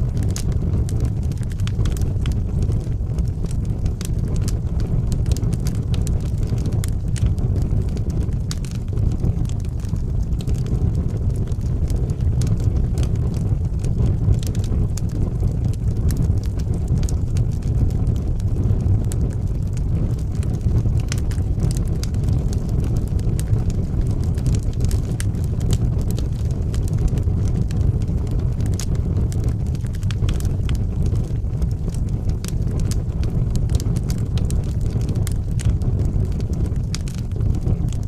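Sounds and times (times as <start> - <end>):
fire crackles and pops: 0.0 - 38.0
fire flames rumbling: 0.0 - 38.0.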